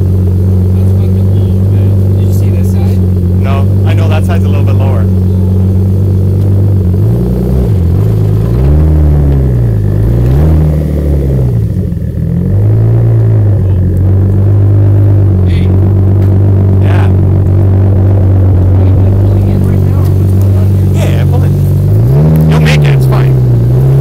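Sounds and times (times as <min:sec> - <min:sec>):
car exhaust idling: 0:00.0 - 0:24.0.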